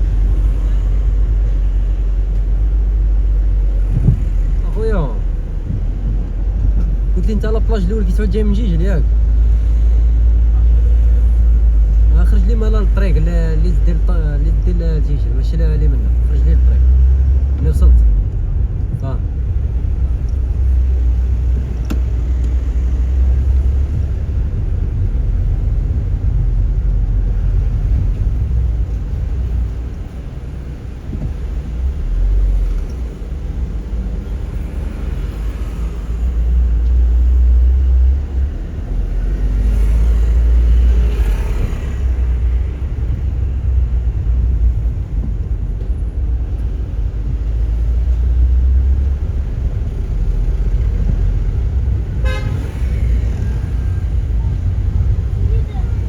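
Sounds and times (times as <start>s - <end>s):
car engine and tyre rumble: 0.0s - 56.0s
rush of noise: 0.0s - 56.0s.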